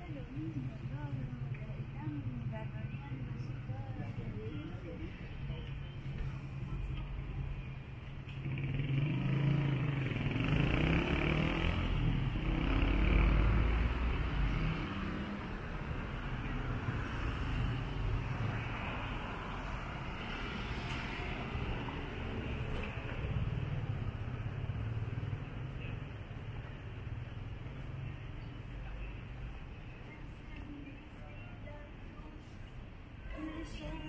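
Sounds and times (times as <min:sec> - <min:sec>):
vehicle passing: 0:00.0 - 0:32.9
traffic hum: 0:00.0 - 0:34.0.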